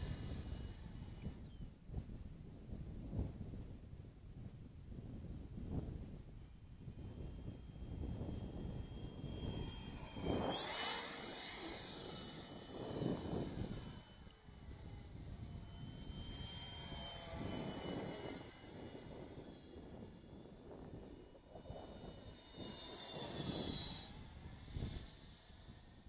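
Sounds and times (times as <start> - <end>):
electric ducted fan whistling whine: 0.0 - 26.0.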